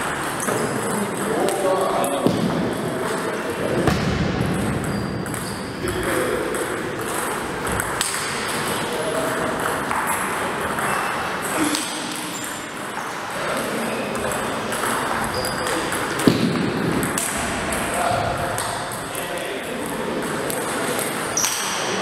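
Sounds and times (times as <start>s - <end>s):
table tennis ball clicking and pinging: 0.0s - 3.8s, 4.4s - 21.9s.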